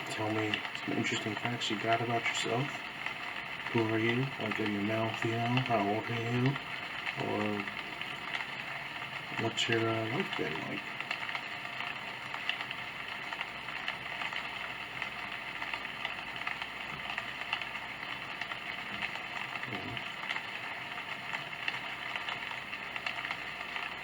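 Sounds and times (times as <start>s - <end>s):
rainfall hiss: 0.0s - 24.0s.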